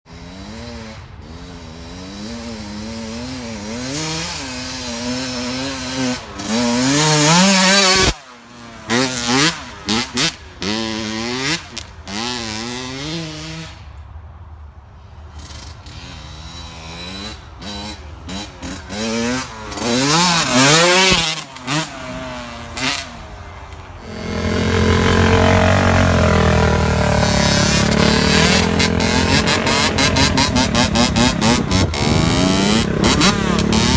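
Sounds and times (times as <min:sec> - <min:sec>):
off-road engines revving: 0:00.1 - 0:14.0, 0:15.2 - 0:33.9.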